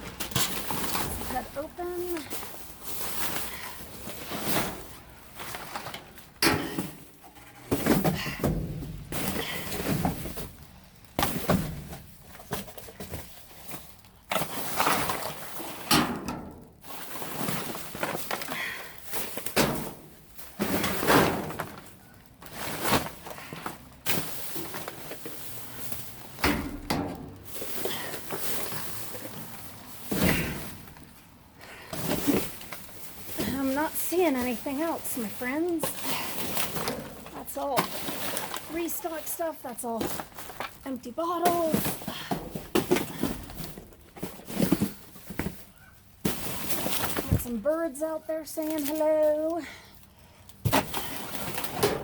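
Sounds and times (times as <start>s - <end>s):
items thunking and knocking: 0.0s - 47.9s, 50.6s - 52.0s
rustling bags and packaging: 0.0s - 52.0s.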